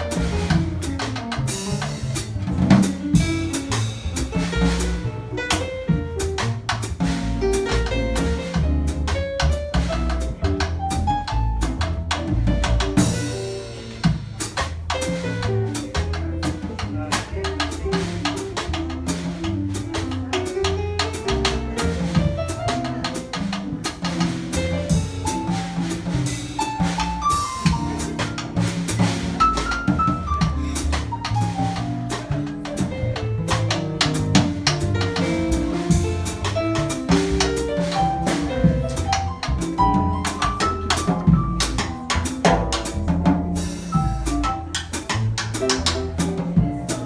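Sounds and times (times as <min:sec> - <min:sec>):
drums and cymbals: 0:00.0 - 0:47.0
piano melody: 0:00.0 - 0:47.0
upright bass: 0:00.0 - 0:47.0.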